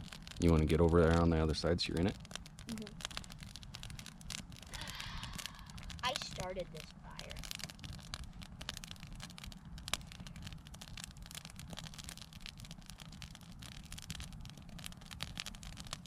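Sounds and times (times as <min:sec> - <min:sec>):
campfire crackling: 0:00.0 - 0:16.0
steady low rumble: 0:00.0 - 0:16.0.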